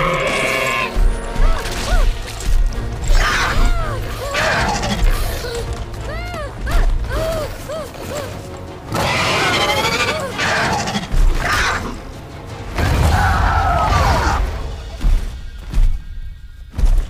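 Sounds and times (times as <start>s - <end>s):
dramatic orchestral score: 0.0s - 17.0s.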